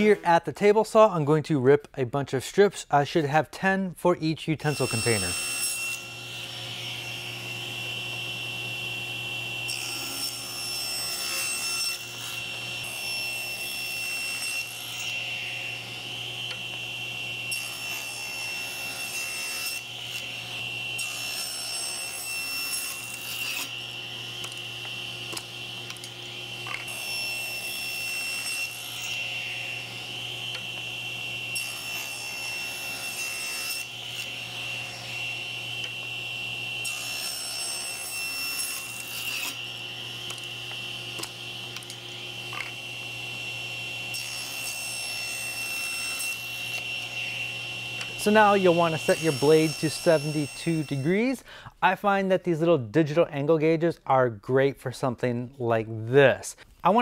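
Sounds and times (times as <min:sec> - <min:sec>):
table saw ripping wood: 0:04.6 - 0:51.4.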